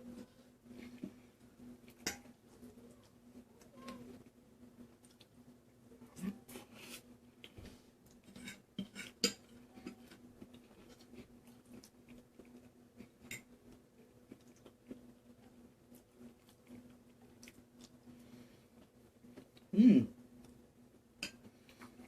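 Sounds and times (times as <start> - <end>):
soft chewing: 0.0 - 22.0.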